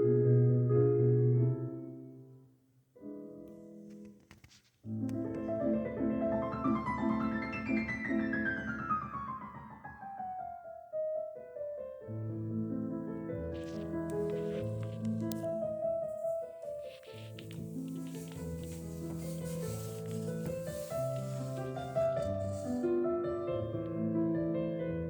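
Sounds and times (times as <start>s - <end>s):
piano music: 4.9s - 25.0s.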